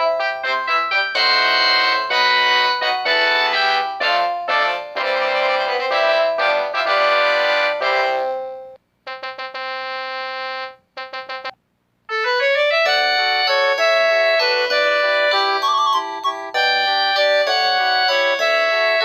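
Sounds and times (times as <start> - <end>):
phone ringtone synth melody: 0.0 - 8.4, 12.1 - 19.0.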